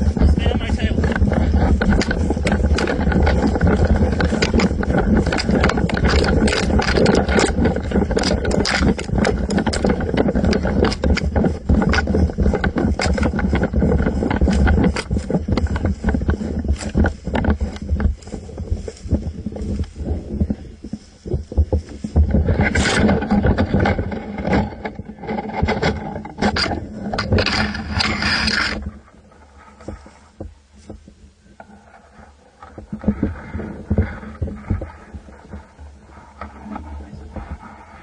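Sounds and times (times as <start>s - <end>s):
low rumble: 0.0s - 38.0s
camera handling knocks and rattles: 1.0s - 31.8s.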